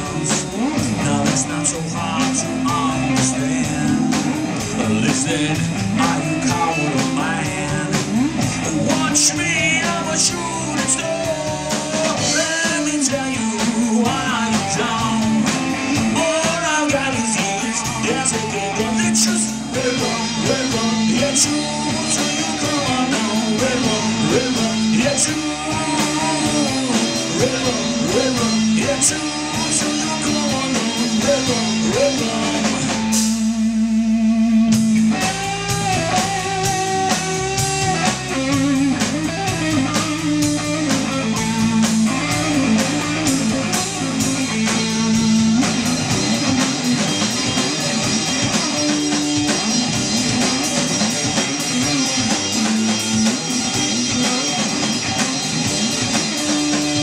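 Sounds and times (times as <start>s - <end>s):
electric guitar lead bending notes: 0.0s - 57.0s
rock band playing live: 0.0s - 57.0s.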